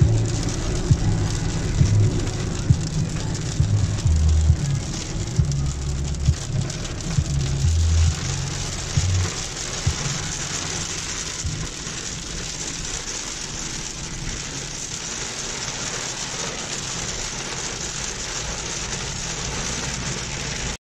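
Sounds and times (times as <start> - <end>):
heavy rain on car roof: 0.0 - 20.8
tyre and road noise: 0.0 - 20.8.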